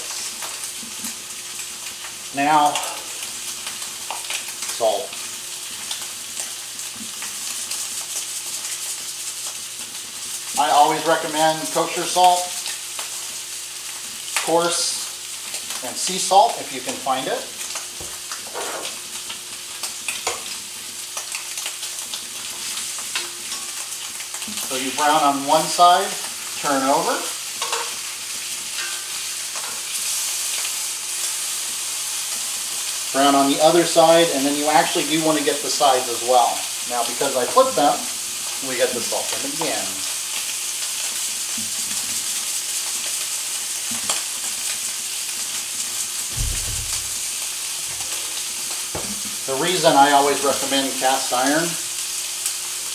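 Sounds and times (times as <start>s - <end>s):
meat sizzling in skillet: 0.0s - 52.9s.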